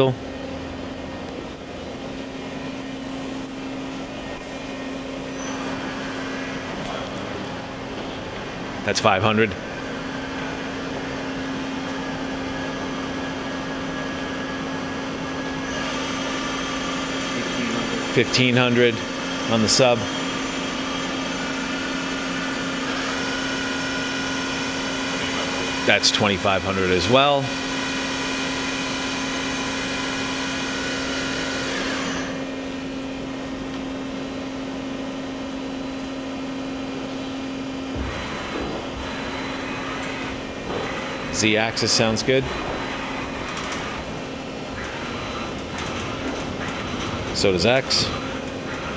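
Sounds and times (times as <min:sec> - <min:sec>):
lathe spindle humming: 0:00.0 - 0:48.9.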